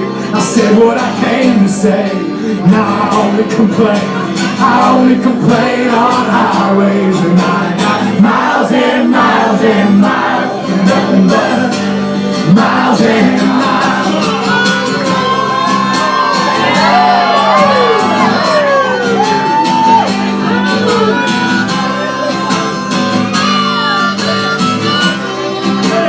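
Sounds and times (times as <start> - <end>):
acoustic band playing: 0.0 - 26.0
guitar chords: 0.0 - 26.0
sliding guitar lead line: 0.0 - 26.0
crowd shouting: 4.6 - 26.0.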